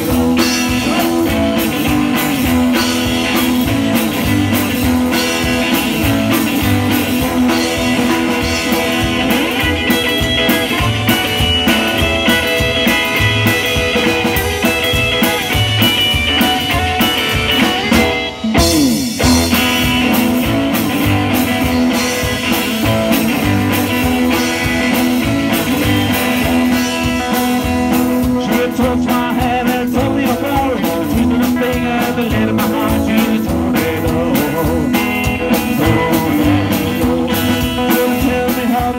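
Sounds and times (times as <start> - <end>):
live rock and roll band: 0.0 - 38.9.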